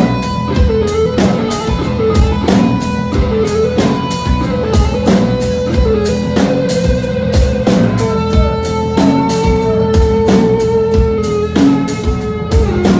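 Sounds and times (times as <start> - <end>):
drum kit beat with cymbals: 0.0 - 12.9
electric guitar lead notes: 0.0 - 12.9.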